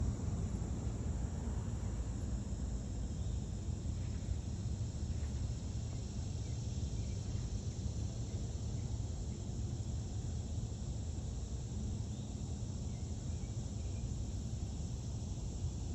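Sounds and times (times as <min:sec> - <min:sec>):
crickets chirring: 0:00.0 - 0:15.9.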